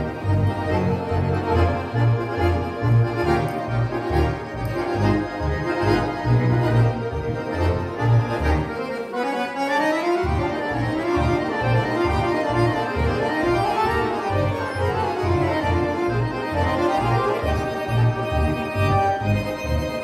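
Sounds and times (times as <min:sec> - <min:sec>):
accordion ensemble playing: 0:00.0 - 0:20.0.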